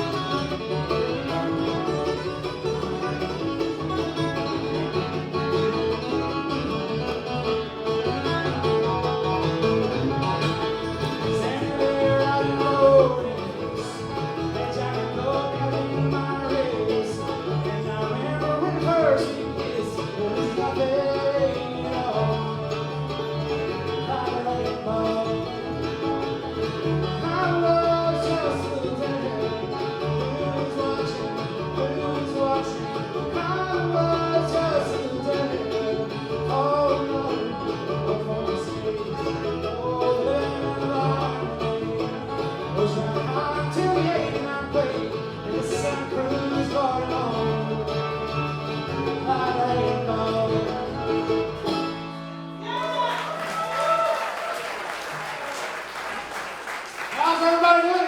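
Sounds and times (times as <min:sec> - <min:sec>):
bluegrass band playing: 0:00.0 - 0:58.0.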